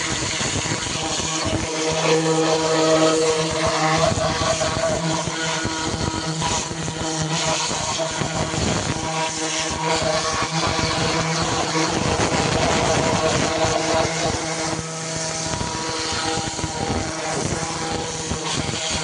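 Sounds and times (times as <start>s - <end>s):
pressure washer motor humming: 0.0s - 19.0s.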